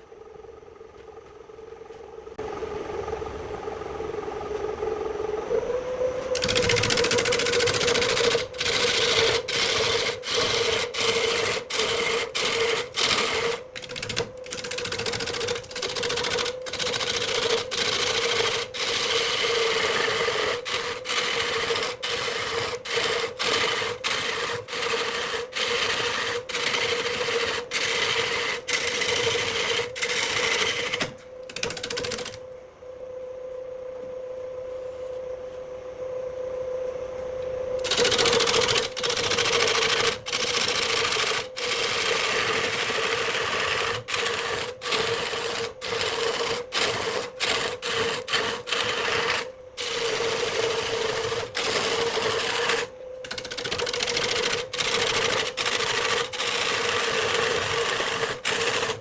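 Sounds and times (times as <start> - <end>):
tool cutting spinning wood: 6.4 - 32.4, 37.8 - 59.0
wood lathe humming: 6.4 - 32.4, 37.8 - 59.0.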